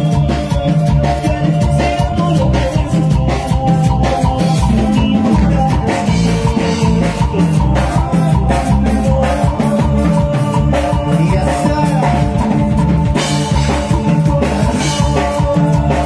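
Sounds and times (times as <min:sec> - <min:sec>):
live latin dance band music: 0:00.0 - 0:16.0.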